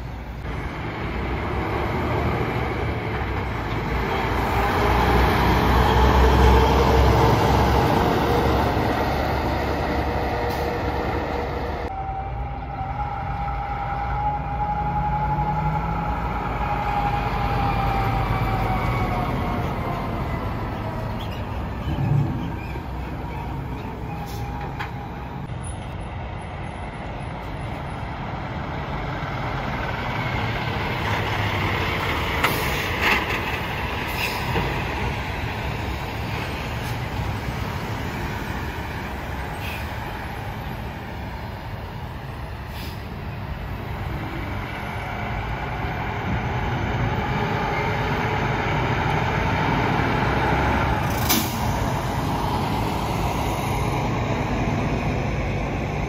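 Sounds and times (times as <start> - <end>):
truck engines running: 0.0 - 56.0.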